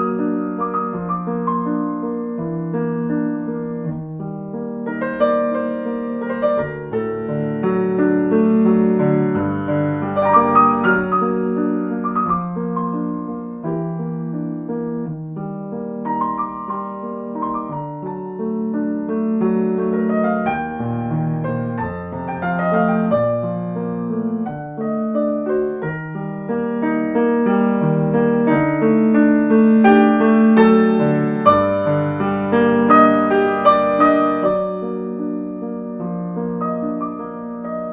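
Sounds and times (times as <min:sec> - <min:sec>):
slow gentle piano music: 0:00.0 - 0:37.9.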